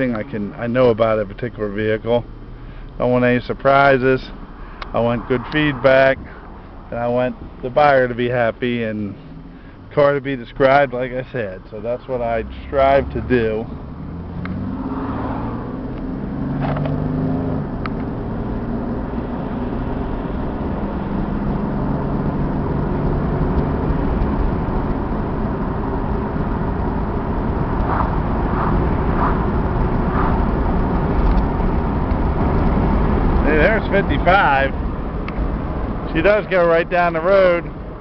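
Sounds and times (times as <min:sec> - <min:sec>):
car engine while driving: 0:00.0 - 0:38.0
road noise inside car: 0:00.0 - 0:38.0.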